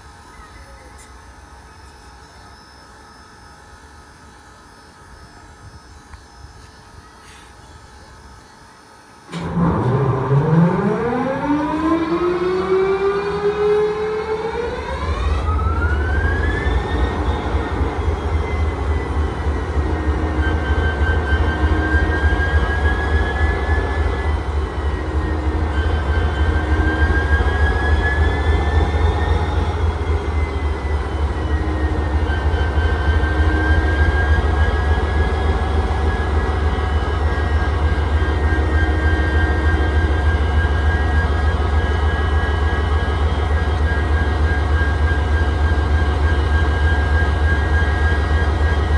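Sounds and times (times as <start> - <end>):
diesel locomotive engine starting: 9.2 - 48.9
turbocharger whine rising: 9.2 - 48.9.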